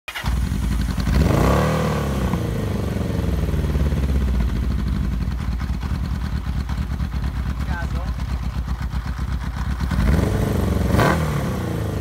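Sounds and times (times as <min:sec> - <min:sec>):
motorcycle engine idling and revving: 0:00.1 - 0:12.0.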